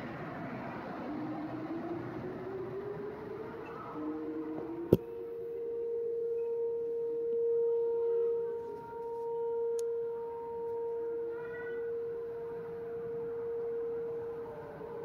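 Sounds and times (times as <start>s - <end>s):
distant sirens wailing: 0.0s - 15.0s
warning siren steady tone: 0.0s - 15.0s.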